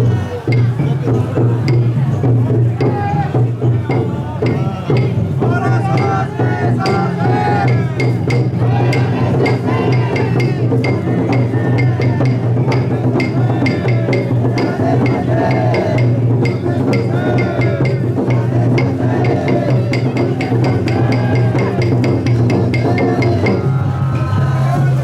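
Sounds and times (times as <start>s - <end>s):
taiko drum beating: 0.0s - 24.9s
people chanting: 0.0s - 25.0s.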